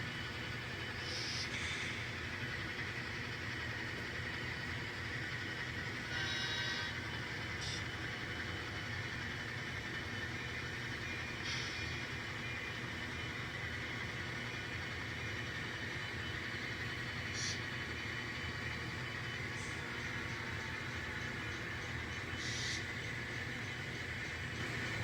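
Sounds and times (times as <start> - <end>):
model train motor hum: 0.0 - 25.0.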